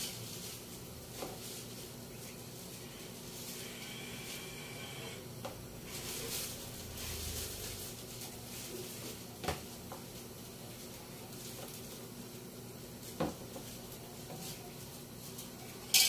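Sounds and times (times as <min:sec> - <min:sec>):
vegetables rustling into pot: 0:00.0 - 0:04.4, 0:05.8 - 0:16.0.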